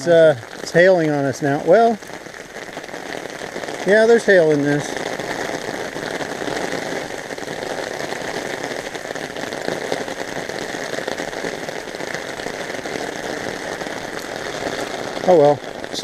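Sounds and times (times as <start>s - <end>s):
rain and hail pattering: 0.0s - 16.0s.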